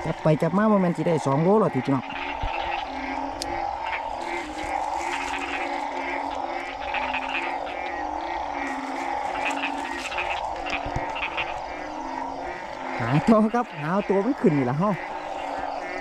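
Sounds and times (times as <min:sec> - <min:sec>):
frogs croaking: 0:00.0 - 0:16.0
frogs trilling: 0:00.0 - 0:16.0.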